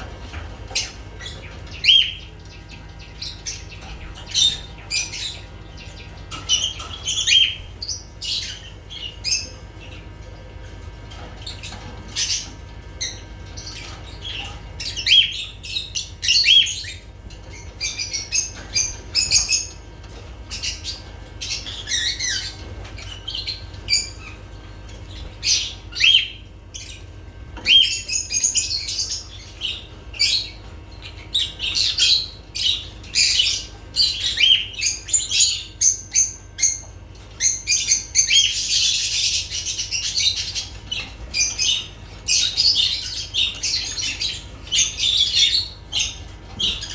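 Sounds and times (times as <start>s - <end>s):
lovebirds chirping and squeaking: 0.0s - 46.9s.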